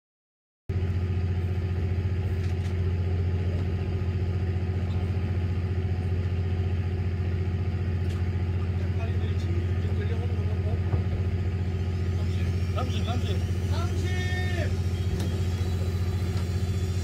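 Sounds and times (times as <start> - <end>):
boat engine idling: 0.7 - 17.0.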